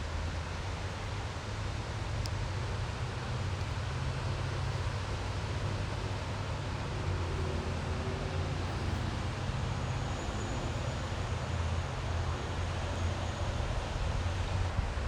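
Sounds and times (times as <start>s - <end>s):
low rumble of water: 0.0s - 15.0s.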